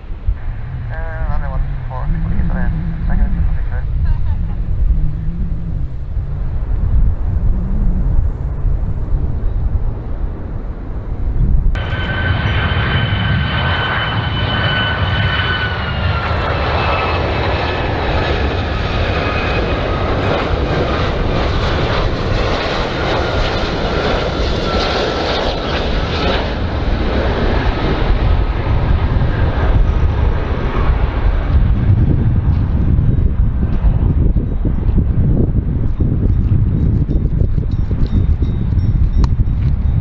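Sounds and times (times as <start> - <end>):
high whine: 0.0 - 40.0
jet engines roaring: 0.0 - 40.0.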